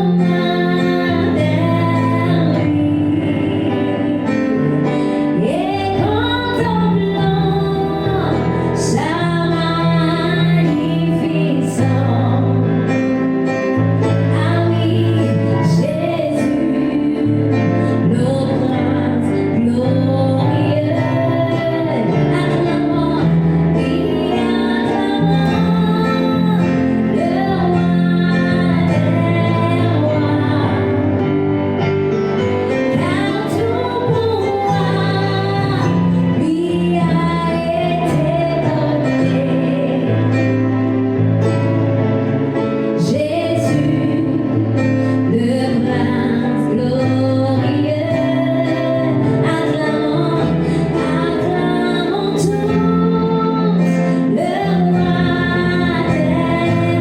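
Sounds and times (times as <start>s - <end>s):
woman singing: 0.0s - 31.5s, 32.4s - 41.1s, 43.0s - 57.0s
guitar and bass accompaniment: 0.0s - 57.0s.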